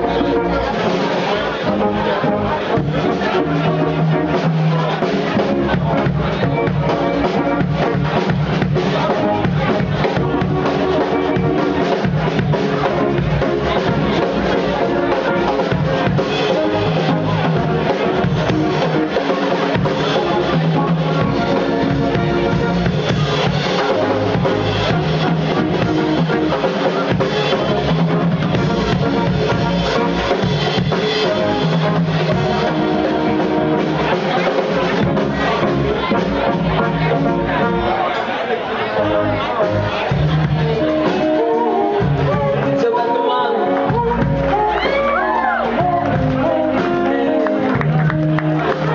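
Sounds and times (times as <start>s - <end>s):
drum kit: 0.0s - 48.9s
live band playing: 0.0s - 48.9s
low bass notes: 0.0s - 48.9s
saxophone and trombone: 0.0s - 48.9s.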